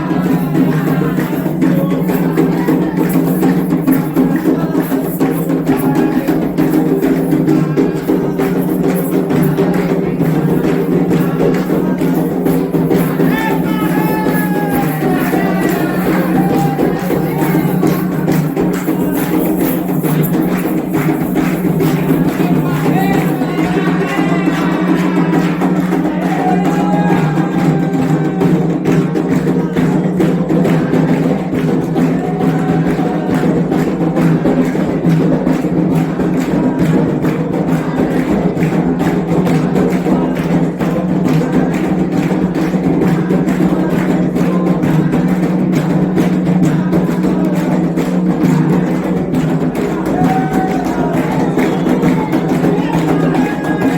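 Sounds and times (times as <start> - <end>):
hand drums playing: 0.0 - 53.9
voices singing: 0.0 - 53.9.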